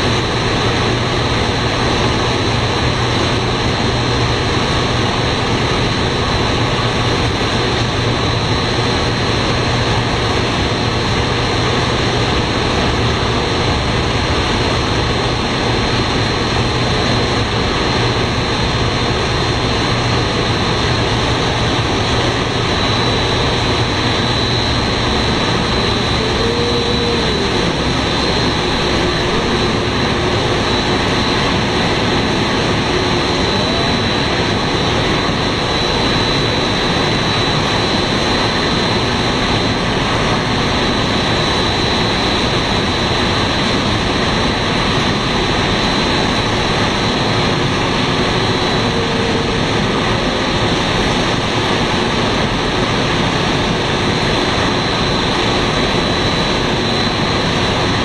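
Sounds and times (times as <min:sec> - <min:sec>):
factory machinery roaring: 0:00.0 - 0:58.0.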